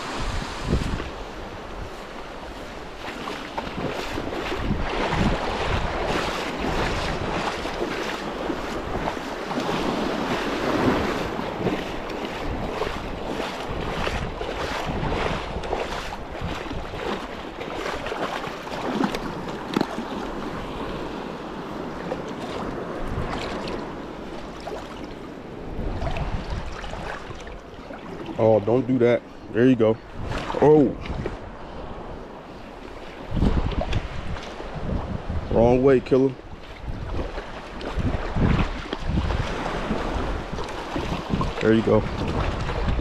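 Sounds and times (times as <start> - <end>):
small waves breaking: 0.0 - 43.0
wind buffeting microphone: 0.0 - 43.0.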